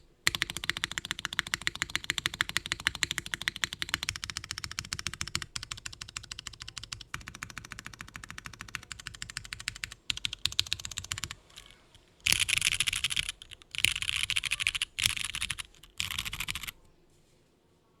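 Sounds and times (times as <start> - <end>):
mechanical keyboard typing: 0.3 - 16.8.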